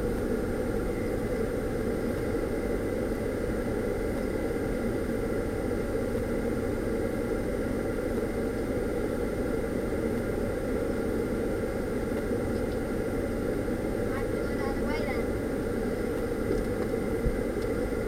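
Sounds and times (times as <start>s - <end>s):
car engine idling hum: 0.0s - 18.0s.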